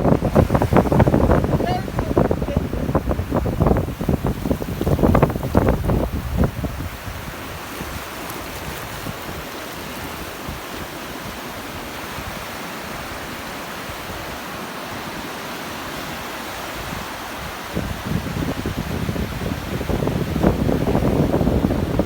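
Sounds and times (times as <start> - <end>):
wind buffeting microphone: 0.0 - 15.2, 15.9 - 22.0
surf breaking on beach: 0.0 - 22.0.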